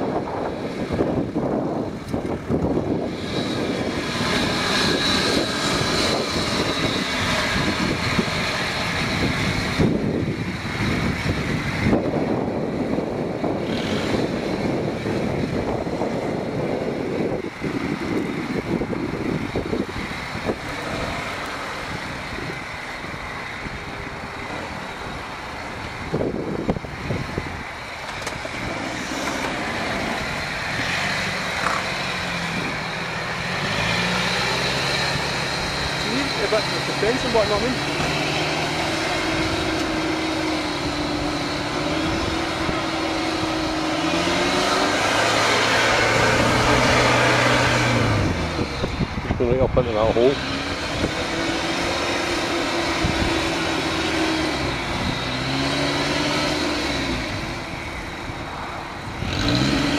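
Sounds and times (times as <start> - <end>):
off-road engines under load: 0.0 - 59.9.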